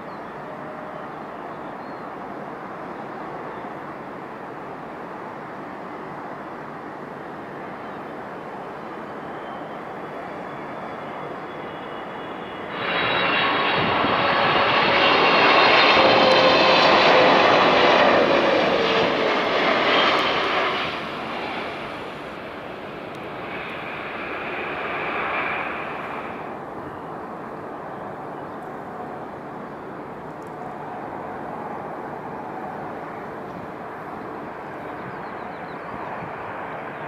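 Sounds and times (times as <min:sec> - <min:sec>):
jet airliner passing close: 0:06.0 - 0:37.0.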